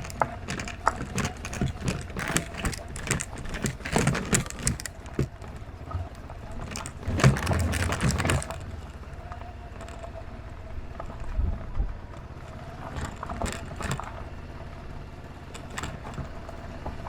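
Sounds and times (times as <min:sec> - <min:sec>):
sharp knocks and rattles: 0:00.0 - 0:10.3, 0:12.2 - 0:14.6, 0:15.3 - 0:17.0
motorcycle engine rumbling: 0:00.0 - 0:17.0.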